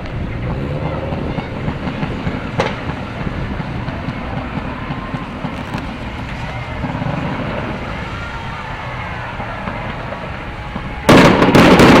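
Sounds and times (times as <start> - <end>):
sharp firework crack: 0.0 - 8.2, 9.6 - 12.0
aerial fireworks bursting: 0.0 - 12.0.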